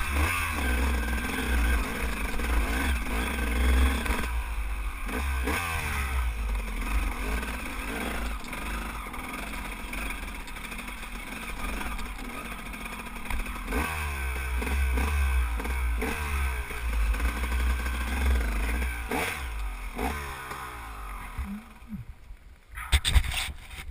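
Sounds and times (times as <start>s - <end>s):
dirt bike engine revving: 0.0s - 22.2s.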